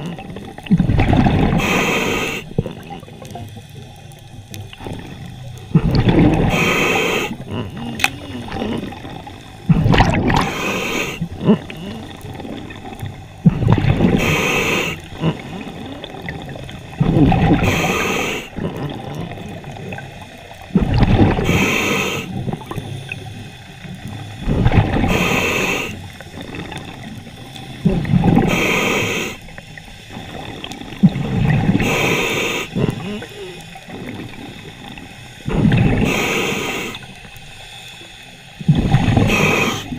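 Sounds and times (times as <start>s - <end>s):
regulator breathing underwater: 0.0s - 20.0s, 20.6s - 23.6s, 24.2s - 39.9s.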